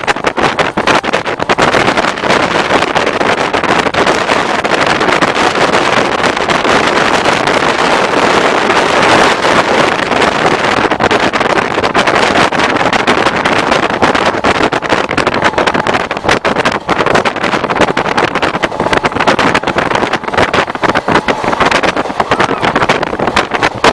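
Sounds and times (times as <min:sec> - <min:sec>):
train running with rapid clatter: 0:00.0 - 0:23.9
wind buffeting microphone: 0:00.0 - 0:23.9.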